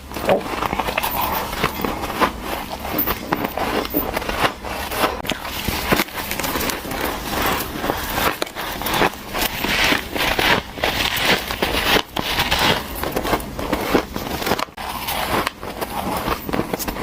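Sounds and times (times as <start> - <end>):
teeth crunching ice: 0.0 - 17.0.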